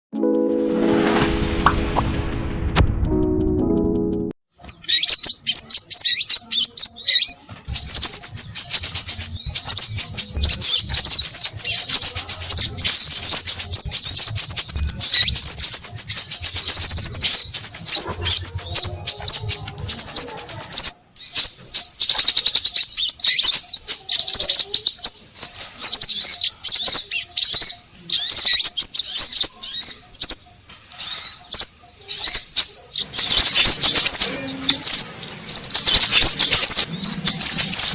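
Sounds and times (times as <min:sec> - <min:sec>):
birds chirping and whistling: 0:04.6 - 0:37.9.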